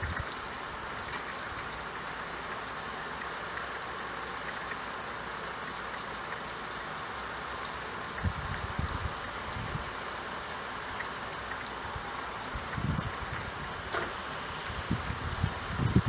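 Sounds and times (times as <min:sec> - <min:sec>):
rain drop ticks: 0:00.0 - 0:16.0
steady rain hiss: 0:00.0 - 0:16.0.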